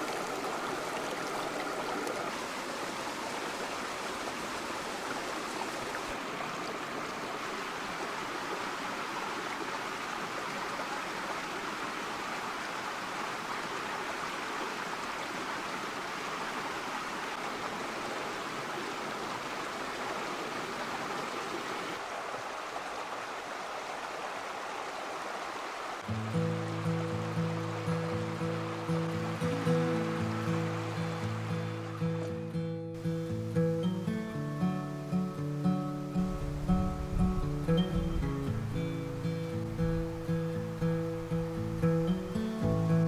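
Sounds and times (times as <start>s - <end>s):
stream running over stones: 0.0s - 43.0s.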